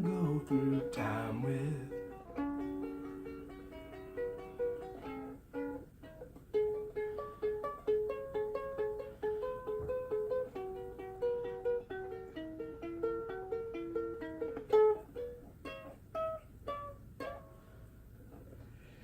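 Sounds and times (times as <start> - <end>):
ukulele fingerpicked notes: 0.0 - 18.5.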